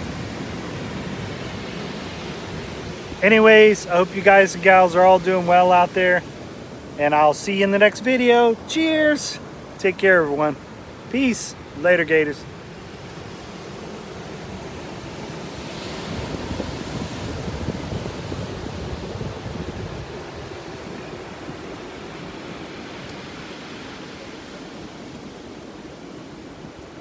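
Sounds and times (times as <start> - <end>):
wave crashing: 0.0 - 25.7
ocean surf breaking: 0.0 - 27.0.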